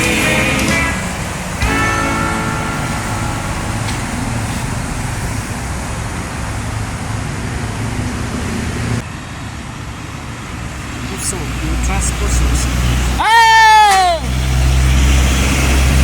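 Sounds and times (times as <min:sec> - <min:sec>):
road traffic noise: 0:00.0 - 0:16.0
truck engine running: 0:00.0 - 0:16.0.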